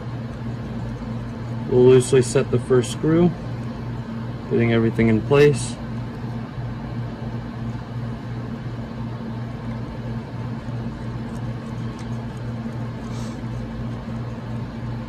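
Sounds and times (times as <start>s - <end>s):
low equipment hum: 0.0s - 15.0s.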